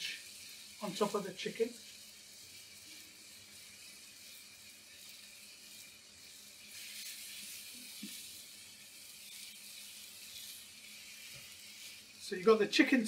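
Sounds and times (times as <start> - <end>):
hot plate sizzling: 0.0 - 13.0.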